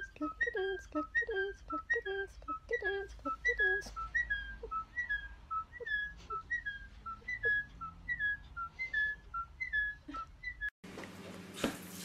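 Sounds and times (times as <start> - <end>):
parrot whistling: 0.0 - 10.7.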